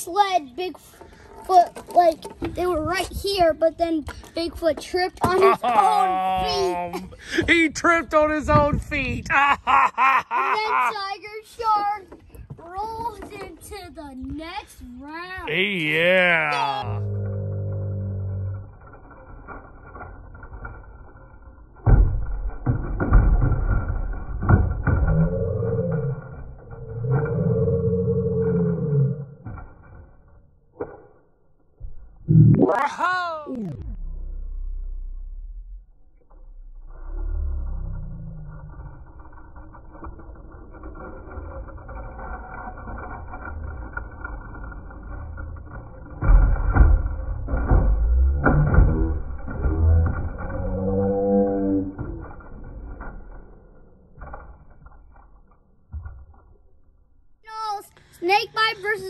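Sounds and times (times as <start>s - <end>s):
toy trucks clattering in plastic sled: 0.0s - 28.8s, 37.1s - 59.0s
toy trucks rolling on wood: 0.0s - 32.1s, 34.0s - 59.0s.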